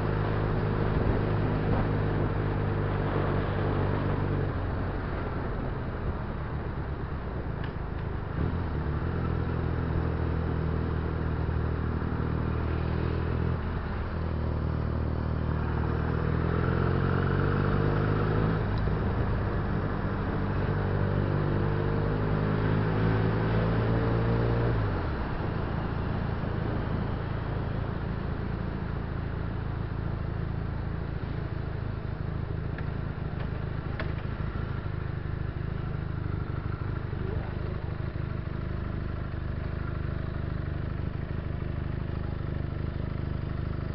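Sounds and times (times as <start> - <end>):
road noise: 0.0 - 43.9.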